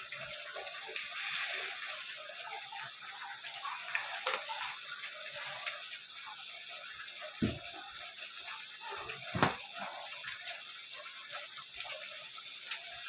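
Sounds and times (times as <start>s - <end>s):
pot of food bubbling: 0.0s - 13.0s.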